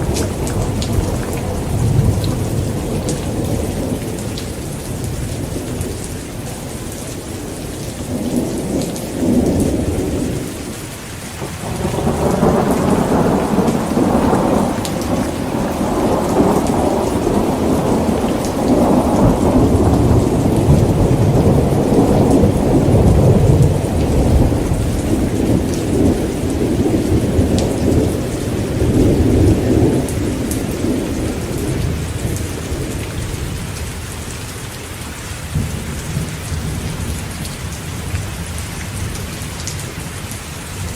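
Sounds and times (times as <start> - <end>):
rolling thunder: 0.0 - 34.1, 35.5 - 39.4
heavy rain falling: 0.0 - 40.9.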